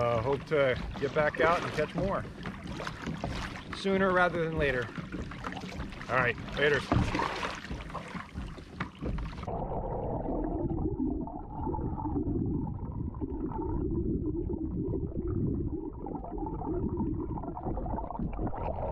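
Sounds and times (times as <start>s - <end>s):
underwater water rushing and gurgling: 0.0s - 18.9s.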